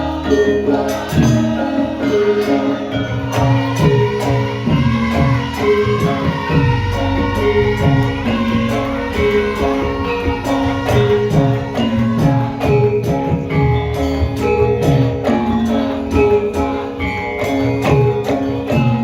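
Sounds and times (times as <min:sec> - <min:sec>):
gamelan melody notes: 0:00.0 - 0:19.0.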